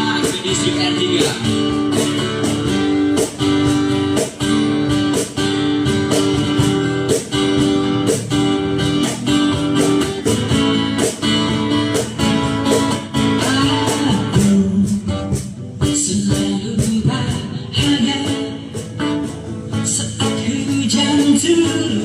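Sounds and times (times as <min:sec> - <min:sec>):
guitar strumming chords: 0:00.0 - 0:22.0.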